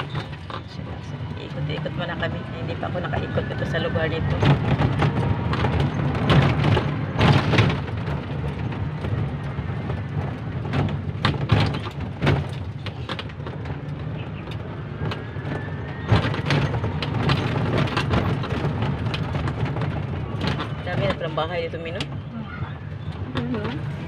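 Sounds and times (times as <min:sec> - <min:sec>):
knocks and rattles: 0:00.0 - 0:24.0.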